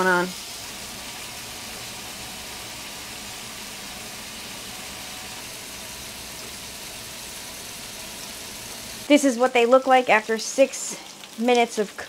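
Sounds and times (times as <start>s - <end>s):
burger patties sizzling on griddle: 0.0s - 12.0s.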